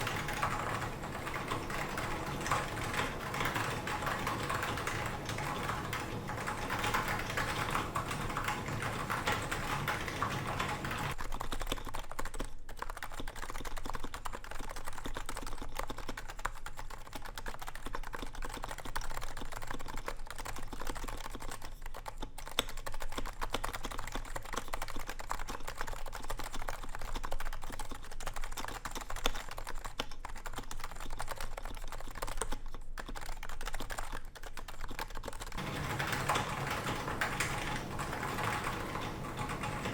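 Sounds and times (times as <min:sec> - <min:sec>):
typing on keyboard: 0:00.0 - 0:39.9.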